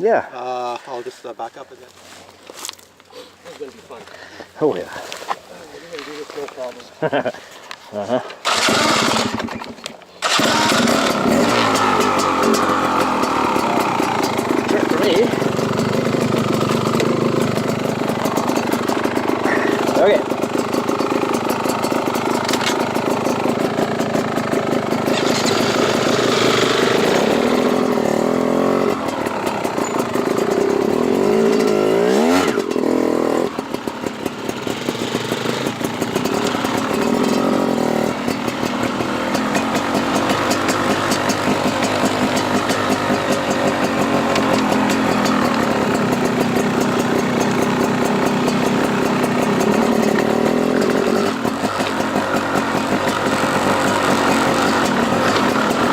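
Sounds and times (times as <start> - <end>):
dirt bike engine revving: 8.4 - 55.9.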